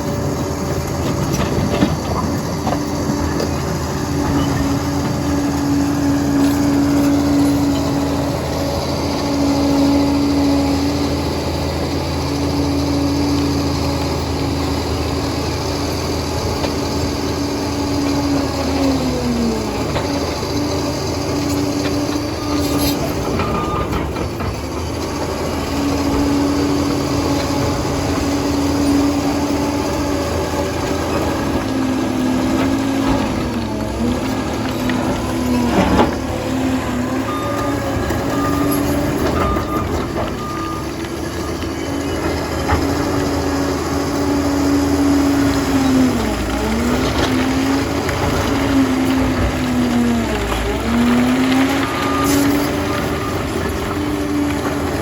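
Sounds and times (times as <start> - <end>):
dozer diesel engine under load: 0.0 - 55.0.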